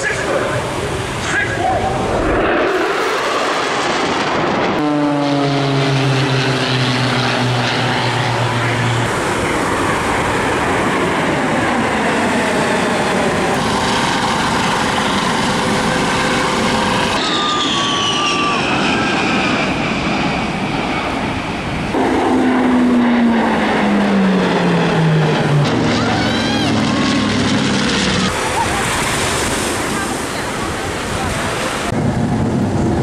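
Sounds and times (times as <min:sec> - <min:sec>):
jet engines roaring: 0:00.0 - 0:33.0
jet whine falling in pitch: 0:01.2 - 0:29.0.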